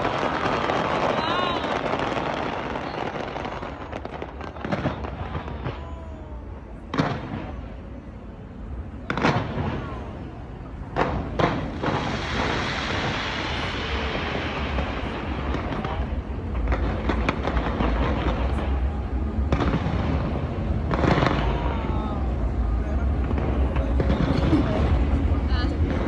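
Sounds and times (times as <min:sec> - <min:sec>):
fireworks booming: 0:00.0 - 0:08.0, 0:08.9 - 0:26.0
background rumble: 0:00.0 - 0:26.0.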